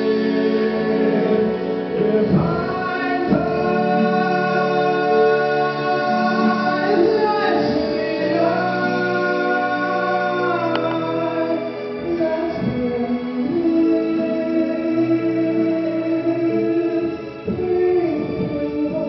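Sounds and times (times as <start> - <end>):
man singing long notes: 0.0 - 19.0
sustained instrumental accompaniment: 0.0 - 19.0.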